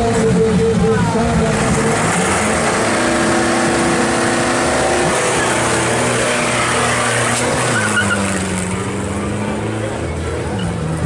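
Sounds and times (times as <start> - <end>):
truck engine running loudly: 0.0 - 11.0.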